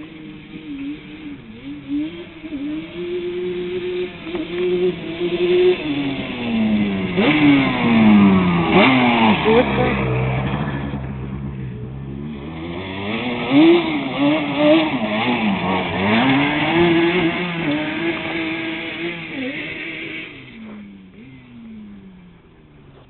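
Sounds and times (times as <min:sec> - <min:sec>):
two-stroke engine revving: 0:00.0 - 0:23.0.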